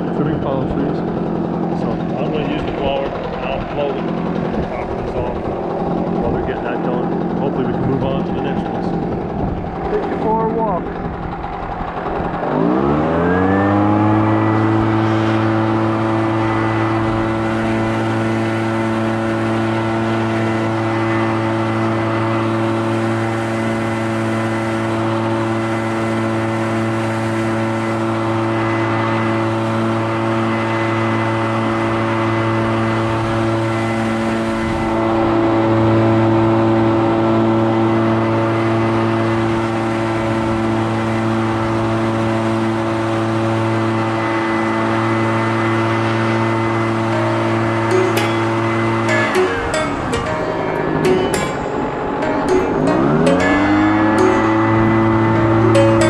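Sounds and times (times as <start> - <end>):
leaf blower engine revving: 0.0 - 56.0.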